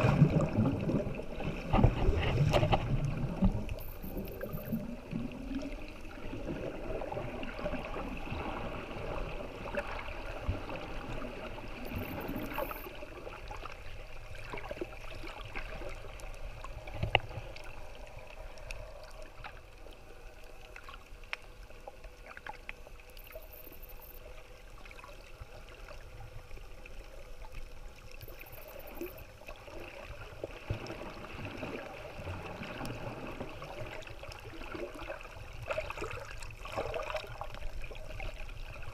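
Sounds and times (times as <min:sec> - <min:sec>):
underwater gurgling water: 0:00.0 - 0:38.9.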